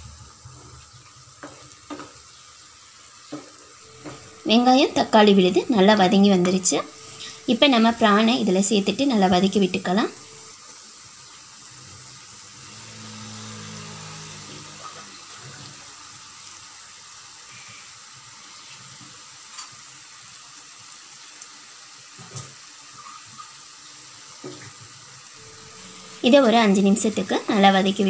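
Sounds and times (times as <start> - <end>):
paste sizzling in a frying pan: 0.0 - 28.0.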